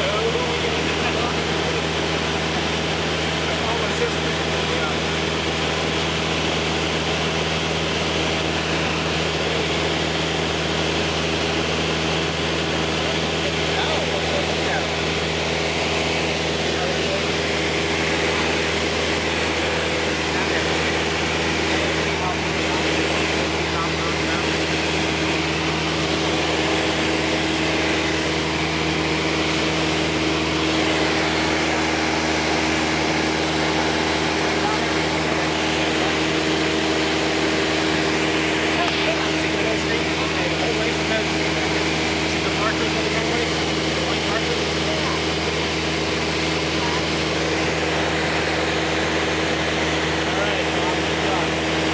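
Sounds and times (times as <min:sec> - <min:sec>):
airplane engine and propeller drone: 0:00.0 - 0:51.9.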